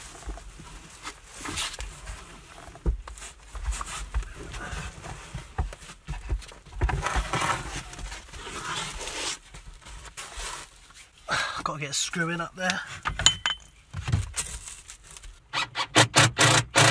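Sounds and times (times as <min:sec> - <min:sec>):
rustling of clothes and insulation: 0:00.0 - 0:15.7.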